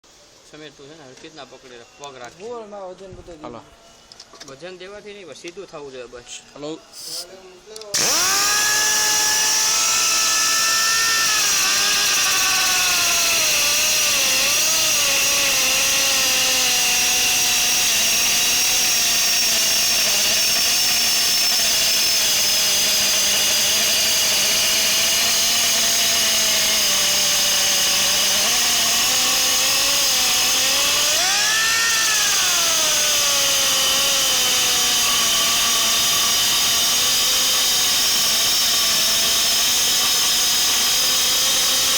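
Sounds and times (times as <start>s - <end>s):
pneumatic grinder whining: 6.9s - 7.3s, 7.9s - 41.9s.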